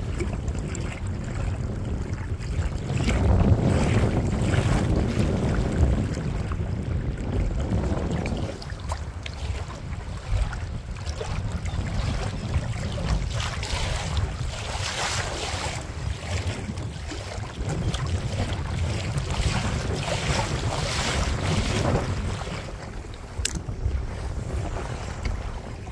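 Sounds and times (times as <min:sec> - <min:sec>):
water splashing against kayak: 0:00.0 - 0:25.9
wind buffeting microphone: 0:00.0 - 0:25.9.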